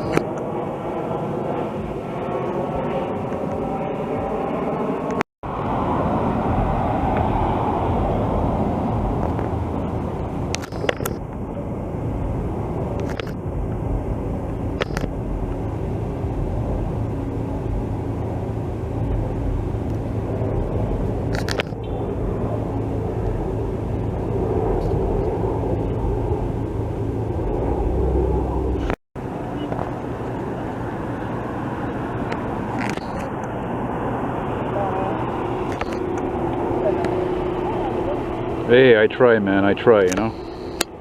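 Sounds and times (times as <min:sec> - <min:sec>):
low engine rumble: 0:00.0 - 0:41.0.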